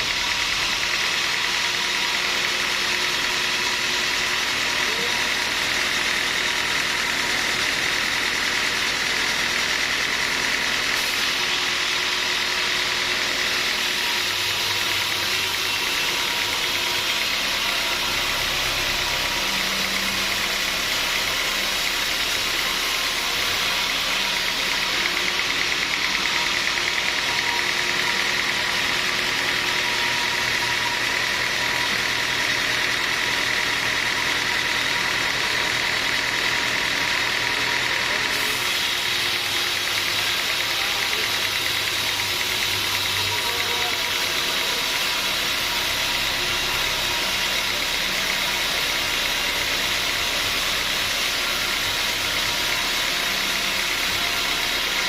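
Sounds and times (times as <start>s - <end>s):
sawmill machinery drone and whine: 0.0s - 55.0s.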